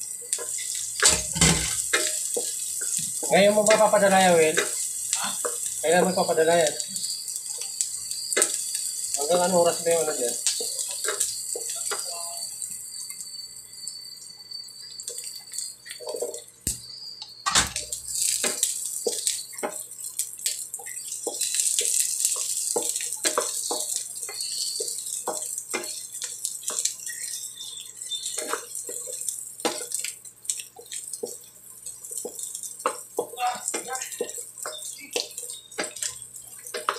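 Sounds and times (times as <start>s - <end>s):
oil sizzling in a wok: 0.0s - 36.9s
spatula clicks and oil pops: 0.3s - 3.9s, 4.5s - 5.8s, 6.8s - 9.2s, 10.4s - 12.1s, 15.0s - 36.9s.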